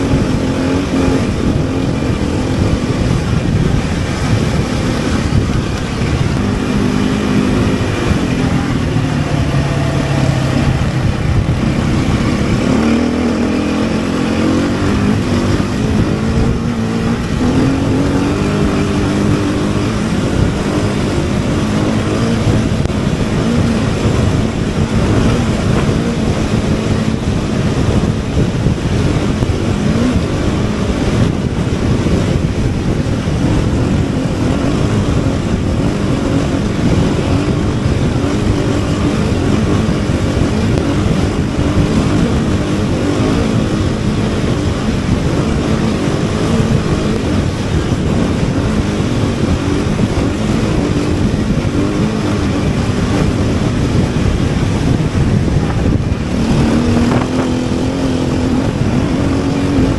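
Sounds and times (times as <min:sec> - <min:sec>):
car engine running: 0:00.0 - 0:59.9
road and tyre noise: 0:00.0 - 0:59.9.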